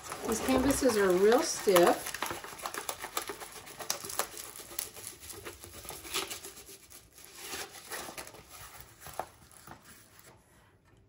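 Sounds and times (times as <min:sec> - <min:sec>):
plastic film crinkling: 0:00.0 - 0:10.5.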